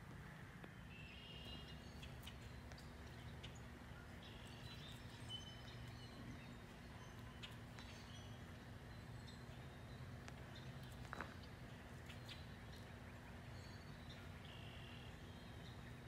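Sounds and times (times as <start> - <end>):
distant songbirds chirping: 0.0 - 16.0
low steady hum: 0.0 - 16.0.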